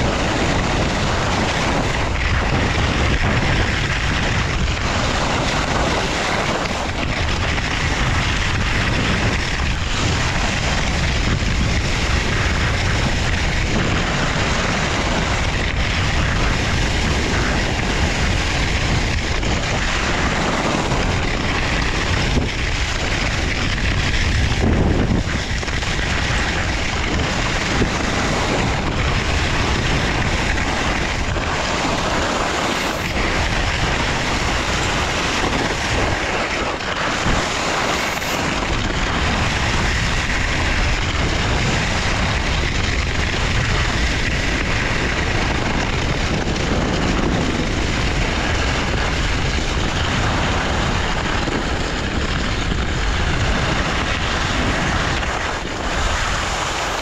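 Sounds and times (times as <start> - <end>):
skis sliding over snow: 0.0 - 57.0
wind buffeting microphone: 0.0 - 57.0.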